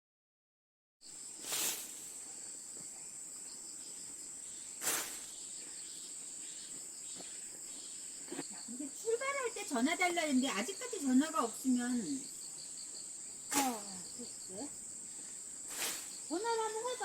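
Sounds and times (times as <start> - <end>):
crickets and insects trilling: 1.0 - 17.0.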